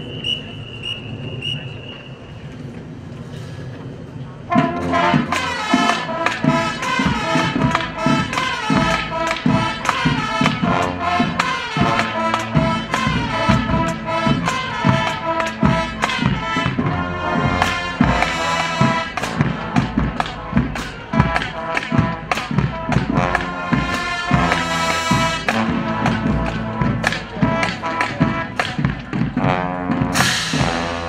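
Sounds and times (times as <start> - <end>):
brass chords: 4.5 - 31.0
drum hits: 4.5 - 31.0
marching band playing: 4.5 - 31.0.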